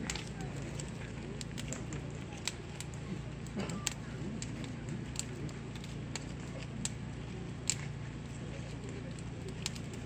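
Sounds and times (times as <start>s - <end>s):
faint voices: 0.0s - 10.0s
steady low hum: 0.0s - 10.0s
wood fire crackling and popping: 0.0s - 10.0s.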